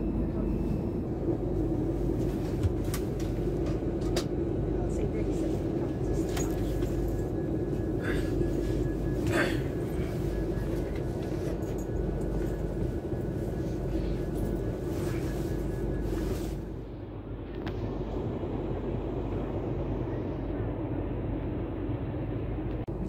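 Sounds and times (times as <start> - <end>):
electric train rumble and hum: 0.0 - 23.0.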